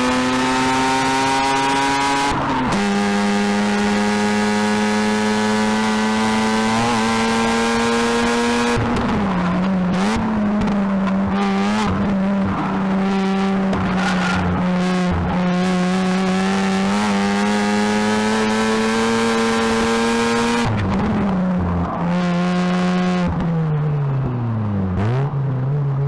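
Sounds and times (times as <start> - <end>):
rotary engine at high revs: 0.0 - 21.4.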